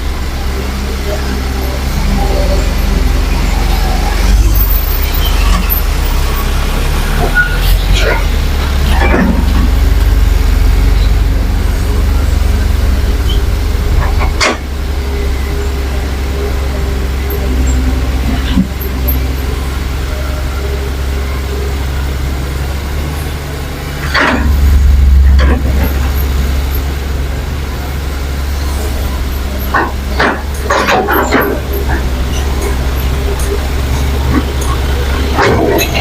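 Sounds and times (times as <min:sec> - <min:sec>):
diesel machinery rumbling: 0:00.0 - 0:36.0.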